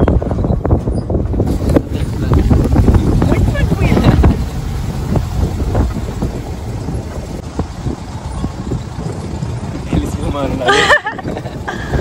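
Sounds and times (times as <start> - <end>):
dune buggy engine rumble: 0.0 - 12.0.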